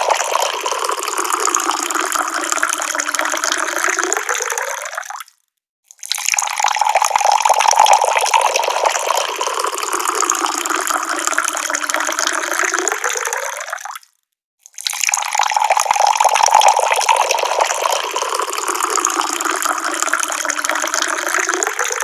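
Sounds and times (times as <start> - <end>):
water pouring from a tap: 0.0 - 5.3, 5.9 - 22.0.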